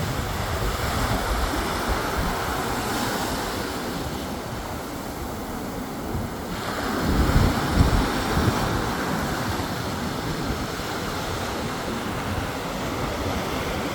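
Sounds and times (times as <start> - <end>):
sea surf washing onto beach: 0.0 - 13.9
wind buffeting microphone: 0.0 - 13.9.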